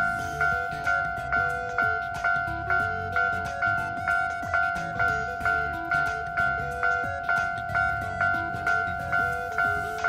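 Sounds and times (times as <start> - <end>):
level crossing bell clanging: 0.0 - 10.0.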